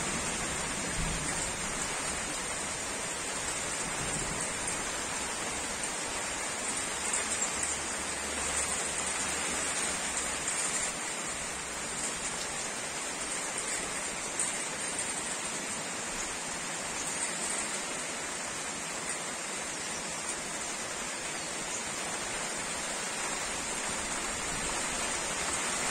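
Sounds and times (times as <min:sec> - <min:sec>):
heavy rain on leaves: 0:00.0 - 0:25.9.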